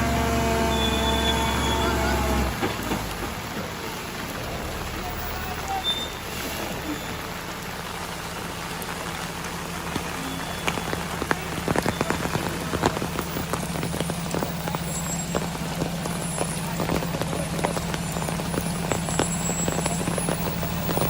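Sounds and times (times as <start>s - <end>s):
diesel truck engine running: 0.0s - 21.0s
rain falling: 0.0s - 21.0s
sharp raindrop hits: 0.8s - 21.0s.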